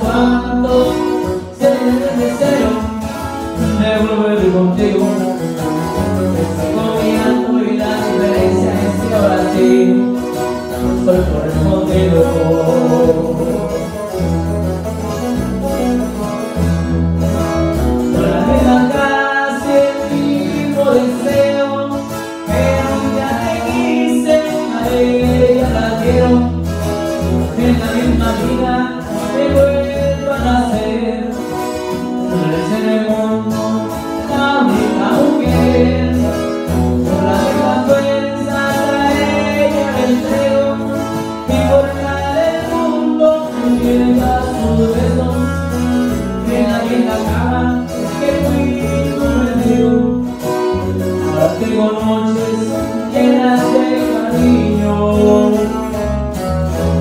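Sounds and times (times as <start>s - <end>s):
acoustic guitars strumming and picking: 0.0s - 57.0s
electric bass notes: 0.0s - 57.0s.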